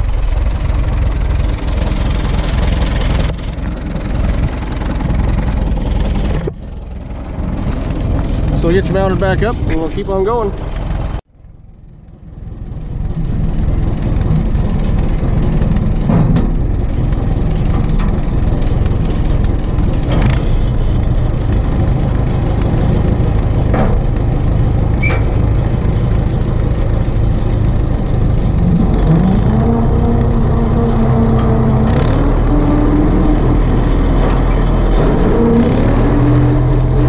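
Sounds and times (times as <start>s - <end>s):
sharp clicks and rattles: 0.0s - 37.0s
tractor engine running: 0.0s - 37.0s.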